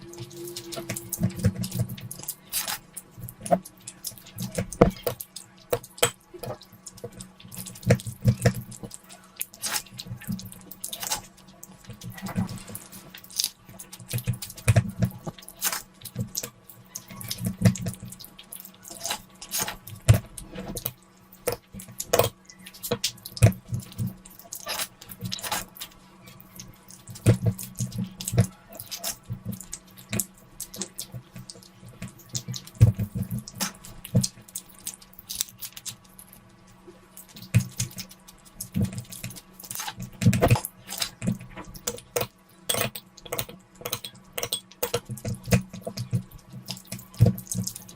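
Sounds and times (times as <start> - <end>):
wet chewing and smacking: 0.0 - 47.9.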